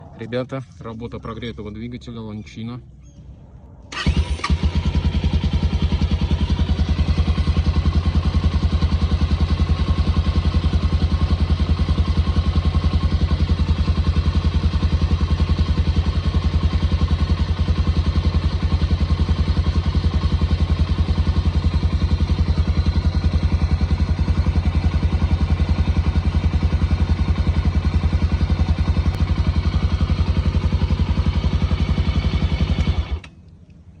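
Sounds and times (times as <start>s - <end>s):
motorcycle engine running: 3.9s - 33.3s.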